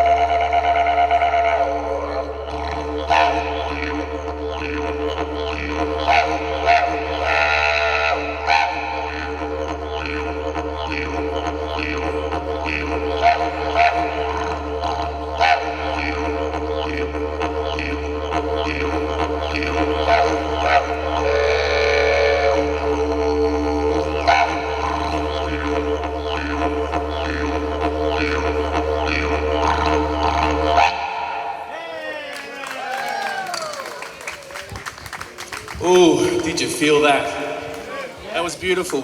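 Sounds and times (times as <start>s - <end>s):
didgeridoo drone: 0.0s - 31.7s.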